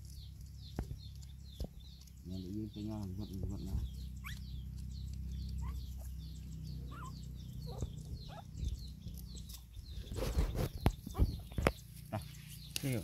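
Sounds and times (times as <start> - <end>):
crackles and rustles: 0.0 - 13.0
small birds chirping: 0.0 - 13.0
steady low hum: 0.0 - 13.0.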